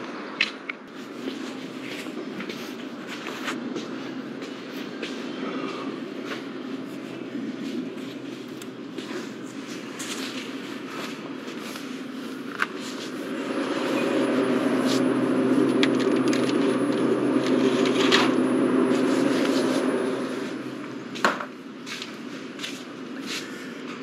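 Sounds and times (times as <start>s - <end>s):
cooler fans humming: 0.0s - 24.0s.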